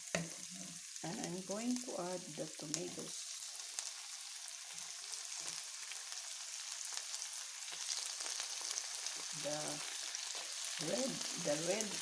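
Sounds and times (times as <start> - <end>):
onions sizzling in oil: 0.0 - 12.0
tomatoes added to pan: 0.0 - 12.0.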